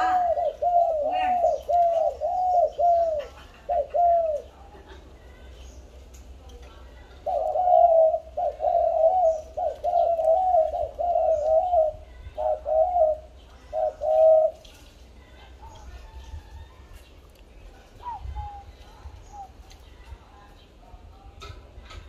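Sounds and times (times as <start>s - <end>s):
doves cooing: 0.0s - 5.2s, 6.9s - 14.9s, 15.5s - 20.0s.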